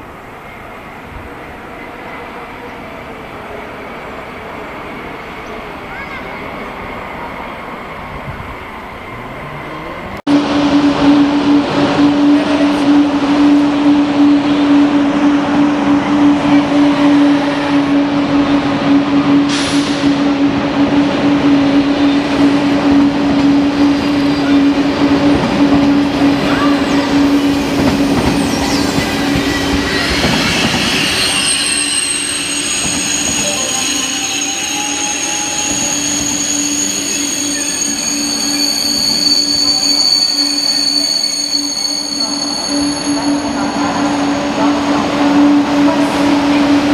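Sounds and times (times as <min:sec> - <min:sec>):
rail running noise: 0:00.0 - 0:46.9
train rolling by: 0:00.0 - 0:46.9.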